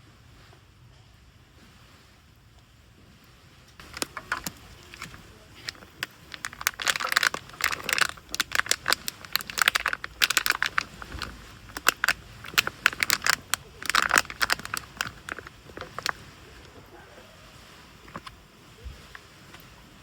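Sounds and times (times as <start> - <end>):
crinkling and rustling: 3.4 - 20.0.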